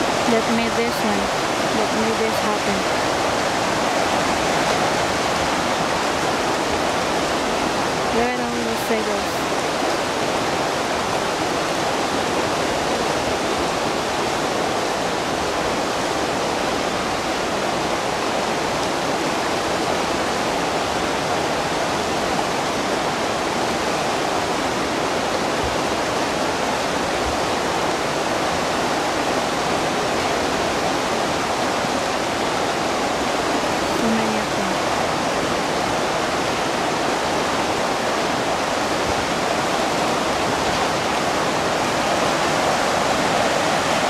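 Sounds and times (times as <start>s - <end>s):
river water rushing over gravel: 0.0s - 44.0s.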